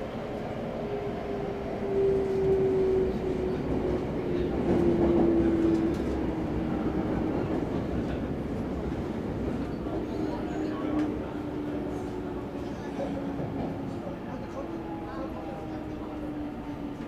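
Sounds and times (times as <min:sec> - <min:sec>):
train running rumble: 0:01.4 - 0:17.0.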